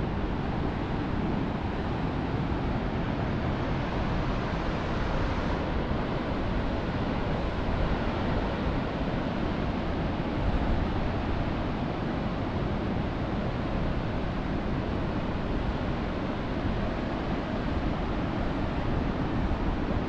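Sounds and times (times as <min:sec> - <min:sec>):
ocean surf: 0:00.0 - 0:20.0
wind buffeting the microphone: 0:00.0 - 0:20.0.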